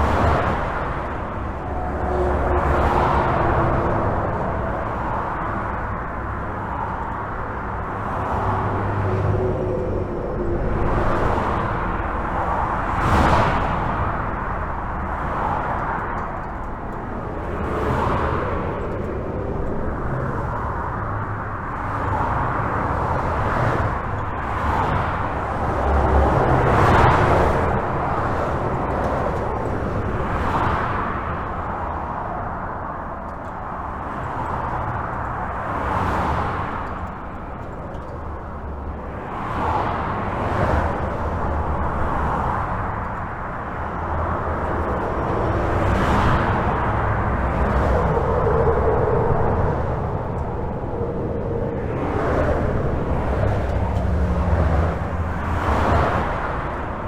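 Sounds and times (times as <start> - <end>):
highway traffic: 0.0 - 57.0
vehicles passing: 0.0 - 57.0.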